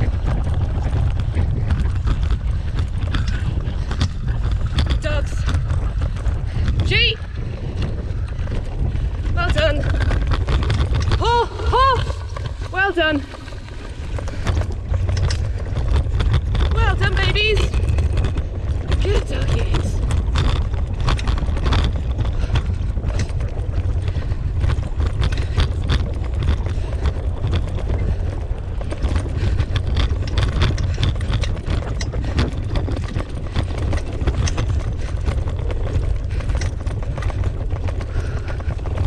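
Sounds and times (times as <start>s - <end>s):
wheels rolling on dirt trail: 0.0s - 39.0s.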